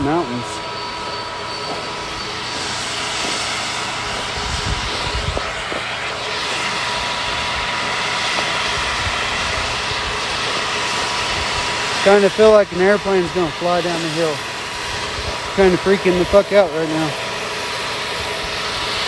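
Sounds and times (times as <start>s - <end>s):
airplane flying overhead: 0.0s - 19.0s.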